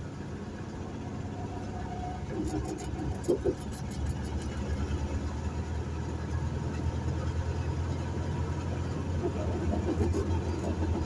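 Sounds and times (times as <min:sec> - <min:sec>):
vehicle engine and tyre noise: 0:00.0 - 0:11.0.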